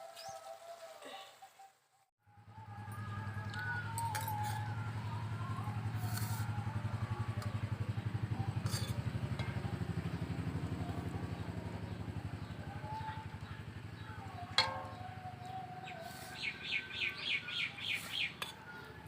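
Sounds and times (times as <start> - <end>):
engine pulsing: 2.2 - 19.0.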